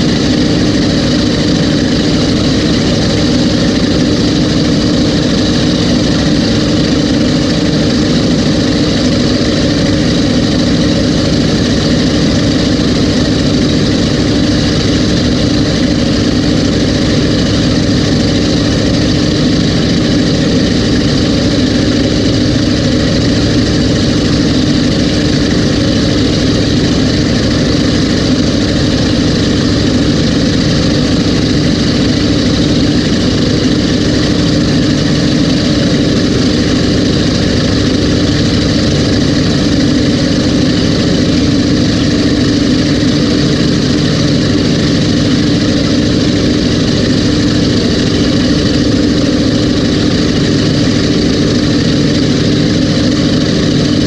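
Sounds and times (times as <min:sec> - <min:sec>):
boat engines running steadily: 0:00.0 - 0:54.0.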